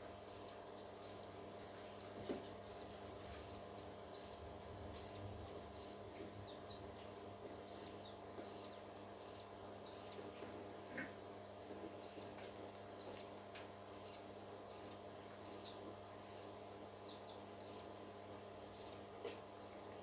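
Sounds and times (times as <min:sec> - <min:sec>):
parrot chick peeping: 0:00.0 - 0:20.0.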